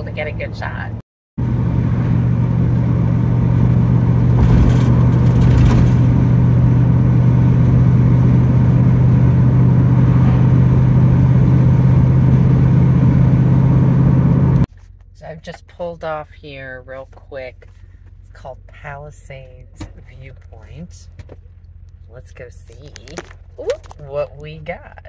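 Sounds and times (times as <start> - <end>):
strong low hum: 0.0 - 25.0
van engine and road noise: 0.0 - 25.0.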